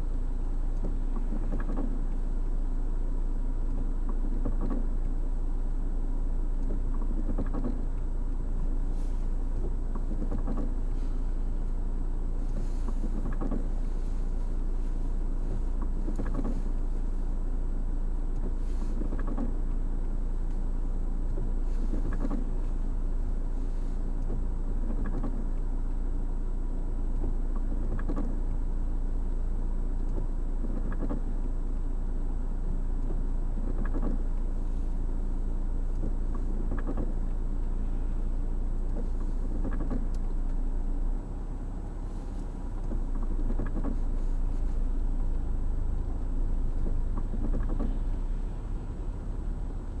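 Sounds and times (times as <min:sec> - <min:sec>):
low engine hum: 0:00.0 - 0:50.0
windscreen wipers sweeping: 0:00.0 - 0:50.0.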